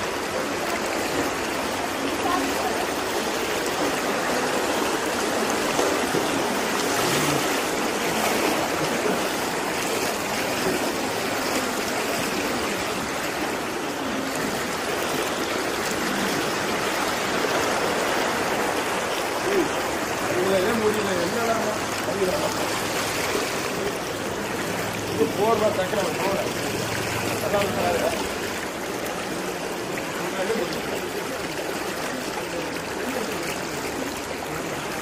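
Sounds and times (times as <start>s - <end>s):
floodwater flowing fast: 0.0s - 35.0s.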